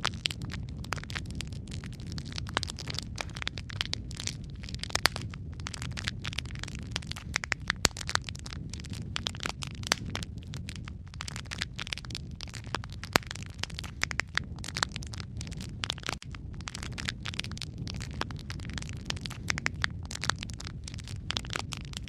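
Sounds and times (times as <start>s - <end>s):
fire popping and snapping: 0.0s - 22.0s
low rumble of burning: 0.0s - 22.0s
wood fire crackling: 0.0s - 22.0s.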